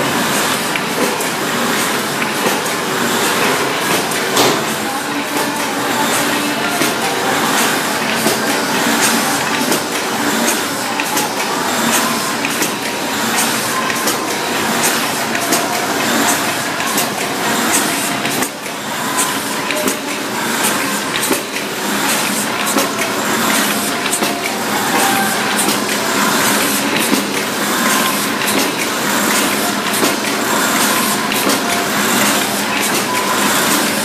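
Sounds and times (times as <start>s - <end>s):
paper bag machine clattering: 0.0s - 34.0s.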